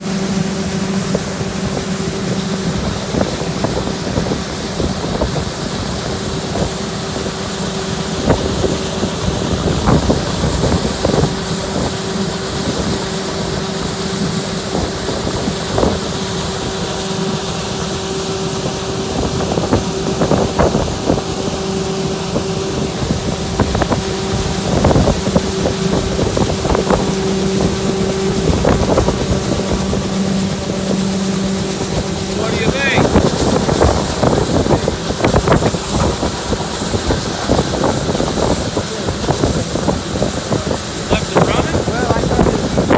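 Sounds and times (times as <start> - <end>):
combine harvester engine: 0.0 - 42.9.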